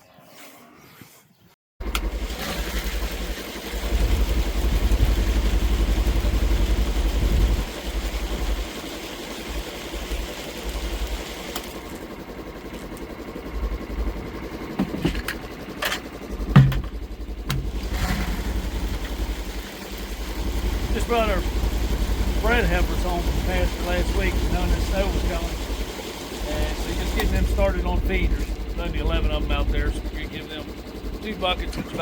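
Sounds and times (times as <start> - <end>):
vehicle engine running: 1.8 - 32.0.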